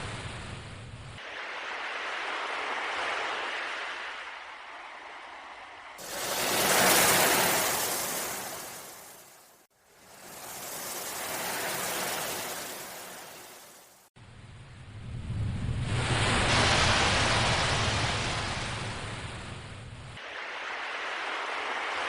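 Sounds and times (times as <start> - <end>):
sea waves surging: 1.2 - 14.1, 15.8 - 19.6, 20.2 - 22.0.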